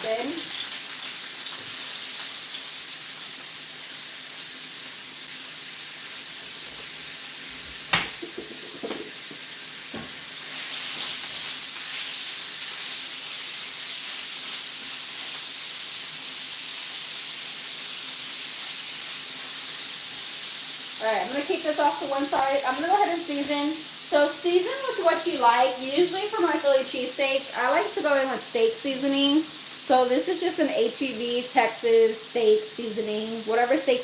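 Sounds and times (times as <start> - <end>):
steak sizzling on a griddle: 0.0 - 34.0.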